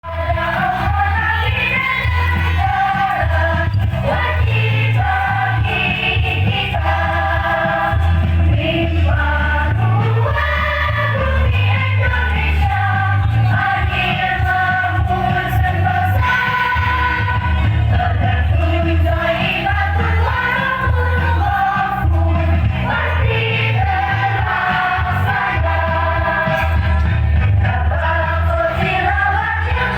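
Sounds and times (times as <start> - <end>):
pulsing bass line: 0.0 - 29.9
choir singing: 0.1 - 29.9.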